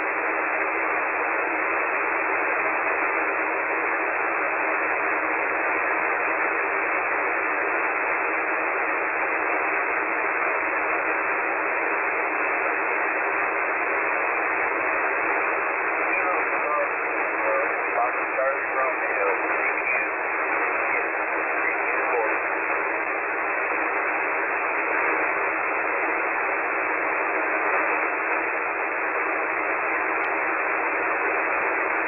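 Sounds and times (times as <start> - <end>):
radio band noise hiss: 0.0 - 32.0.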